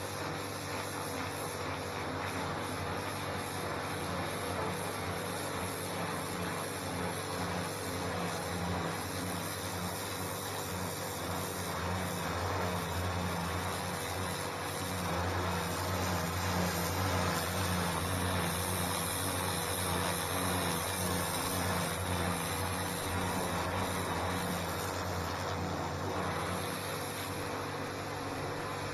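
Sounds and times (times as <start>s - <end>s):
pressure washer motor humming: 0.0s - 28.9s
water jet hissing on paving: 0.0s - 28.9s.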